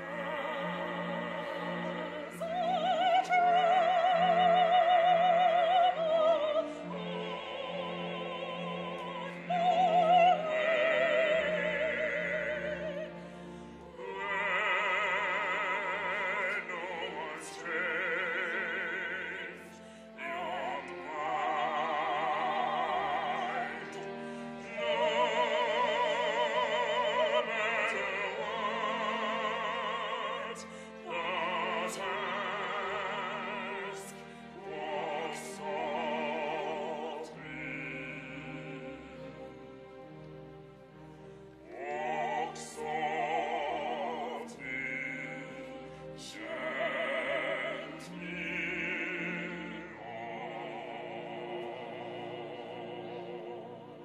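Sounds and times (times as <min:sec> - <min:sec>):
operatic singing with vibrato: 0:00.0 - 0:54.0.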